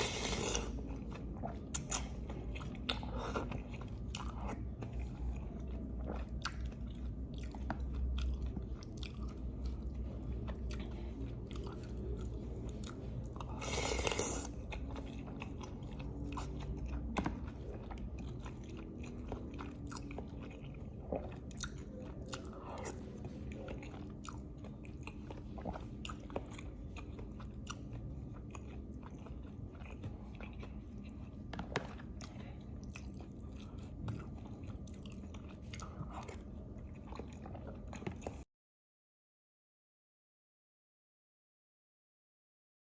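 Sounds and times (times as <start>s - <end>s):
person chewing with wet clicks: 0.0s - 38.5s.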